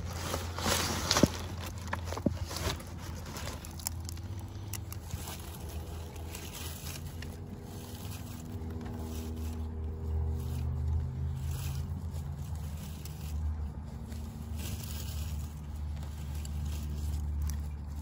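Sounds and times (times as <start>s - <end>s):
hand scraping sandy soil: 0.0s - 18.0s.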